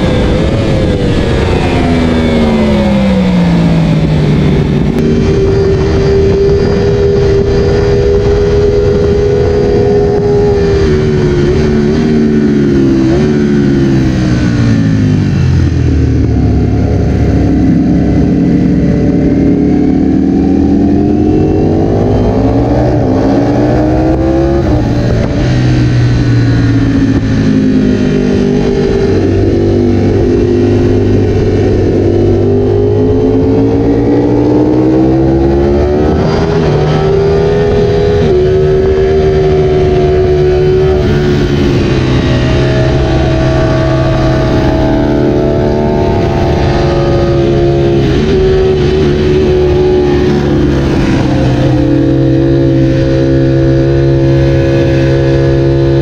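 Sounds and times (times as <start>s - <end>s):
superbike engine revving: 0.0s - 56.0s.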